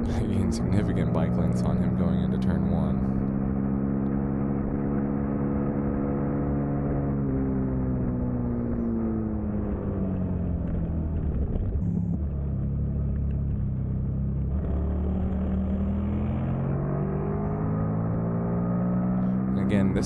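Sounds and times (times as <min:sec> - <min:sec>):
motorcycle engine racing: 0:00.0 - 0:20.0.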